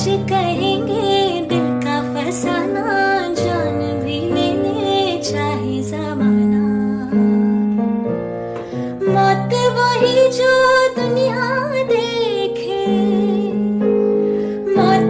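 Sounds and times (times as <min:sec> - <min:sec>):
woman singing: 0:00.0 - 0:08.1, 0:08.8 - 0:15.0
piano chords: 0:00.0 - 0:15.0.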